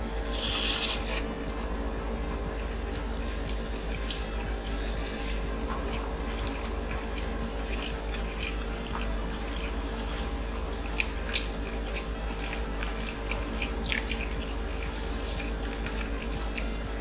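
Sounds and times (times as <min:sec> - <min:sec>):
chewing with wet smacks: 0:00.0 - 0:17.0
low hum: 0:00.0 - 0:17.0.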